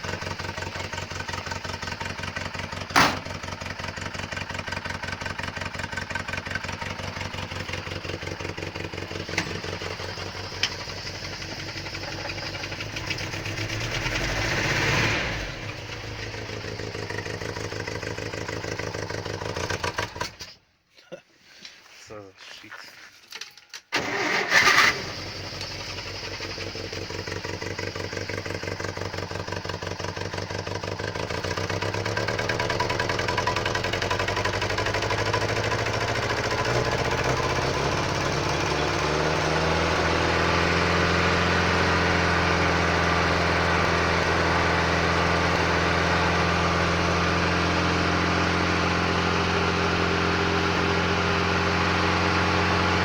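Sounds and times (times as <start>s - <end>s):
petrol engine starting and idling: 0.0s - 20.6s, 23.9s - 53.0s.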